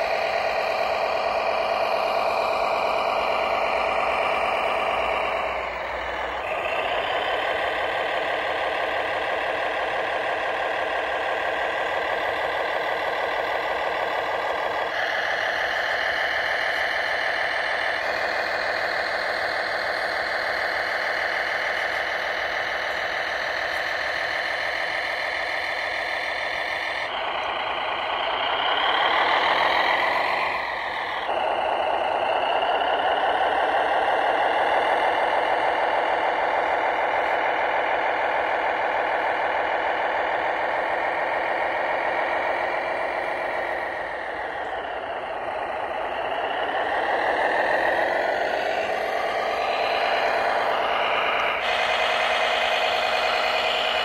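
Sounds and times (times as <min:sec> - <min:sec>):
toy tractor motor whining: 0:00.0 - 0:54.0.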